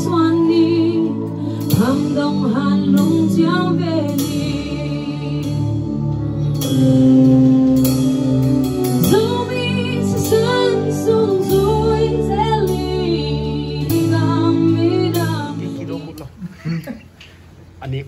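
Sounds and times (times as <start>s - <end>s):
live band playing: 0.0s - 16.4s.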